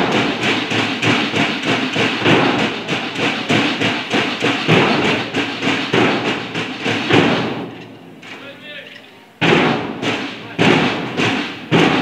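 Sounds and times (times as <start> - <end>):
marching drums beating: 0.0 - 12.0.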